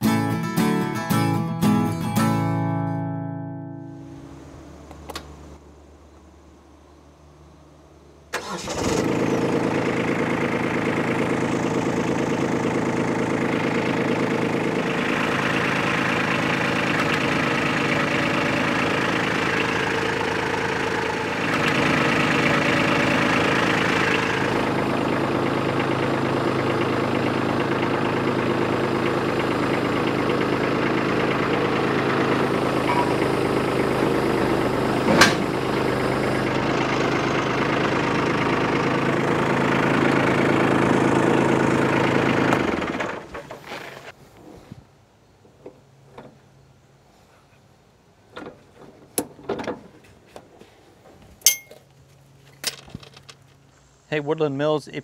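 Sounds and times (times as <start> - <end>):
diesel engine starting and idling: 0.0 - 44.2.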